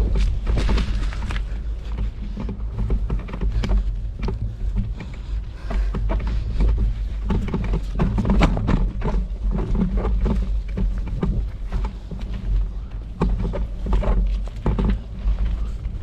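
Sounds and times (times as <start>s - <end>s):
bicycle rumbling over dirt: 0.0s - 16.0s
bike clicks and rattles: 0.0s - 16.0s.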